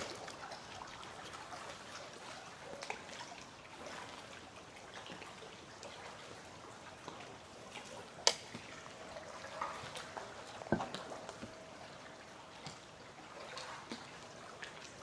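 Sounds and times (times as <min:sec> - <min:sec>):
shallow water trickling: 0:00.0 - 0:15.0.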